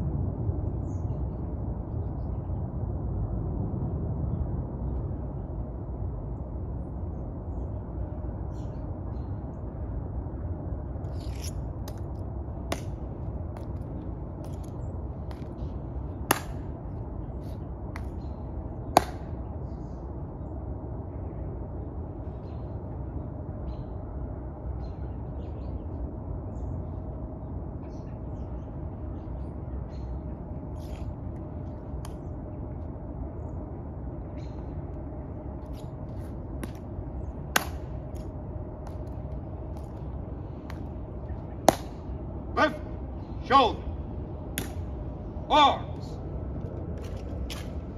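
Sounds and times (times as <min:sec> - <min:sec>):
low outdoor rumble: 0:00.0 - 0:47.9.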